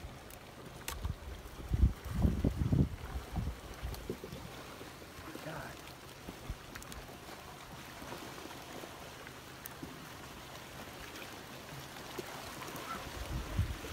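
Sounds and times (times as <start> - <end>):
rushing water and mud: 0.0 - 13.9.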